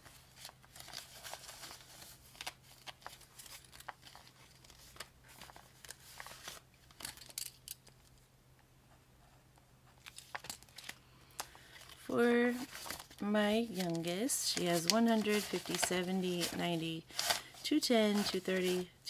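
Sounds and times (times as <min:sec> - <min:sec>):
paper banknotes rustling: 0:00.0 - 0:07.4, 0:10.0 - 0:19.0.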